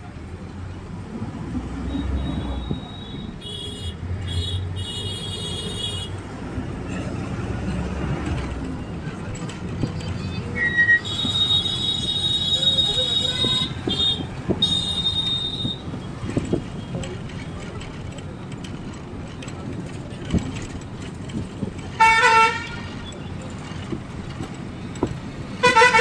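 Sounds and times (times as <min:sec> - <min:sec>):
heavy vehicle engine rumble: 0:00.0 - 0:26.0
road traffic: 0:00.0 - 0:26.0.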